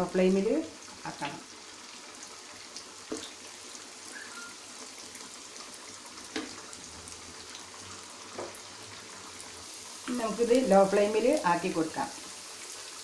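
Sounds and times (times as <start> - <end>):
dough frying in hot oil: 0.0 - 13.0.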